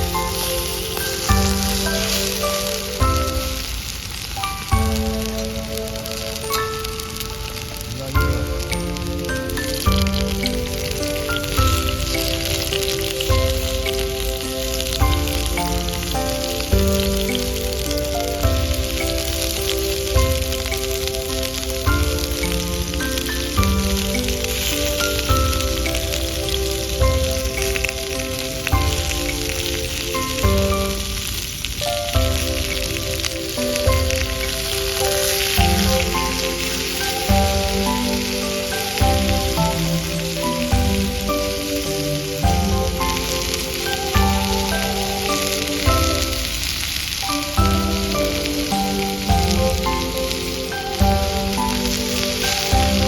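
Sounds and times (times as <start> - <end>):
beef sizzling over fire: 0.0 - 53.0
melodic music with slow beat: 0.0 - 53.0.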